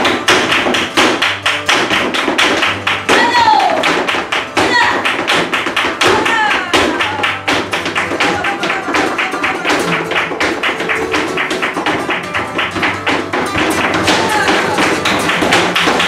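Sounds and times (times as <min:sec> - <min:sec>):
dancer's footwork strikes: 0:00.0 - 0:16.0
guitar playing: 0:00.0 - 0:16.0
rapid hand-clapping: 0:00.0 - 0:16.0.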